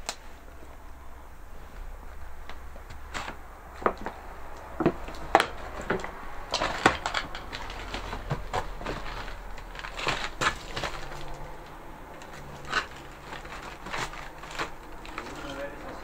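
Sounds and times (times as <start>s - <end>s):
footsteps on rubble and leaves: 2.8s - 16.0s.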